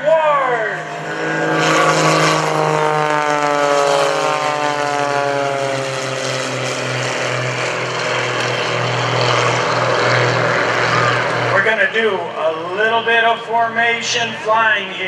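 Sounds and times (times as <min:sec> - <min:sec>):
propeller planes droning: 0:00.0 - 0:15.0.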